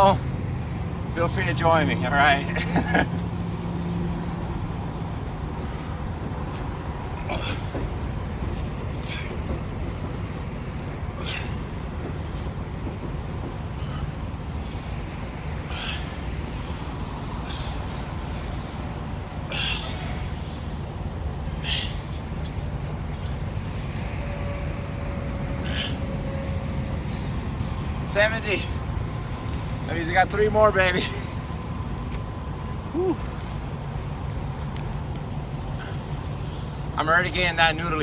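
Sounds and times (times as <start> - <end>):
engine and traffic rumble: 0.0 - 38.0.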